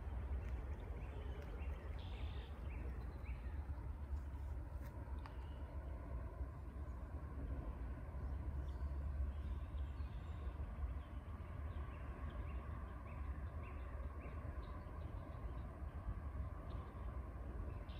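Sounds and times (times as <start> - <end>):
outdoor rumble and hiss: 0.0 - 17.9.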